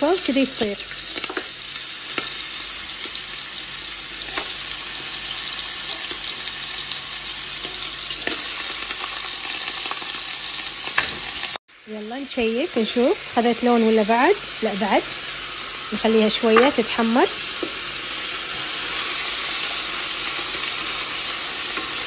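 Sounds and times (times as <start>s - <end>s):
meat sizzling in a pot: 0.0s - 22.0s.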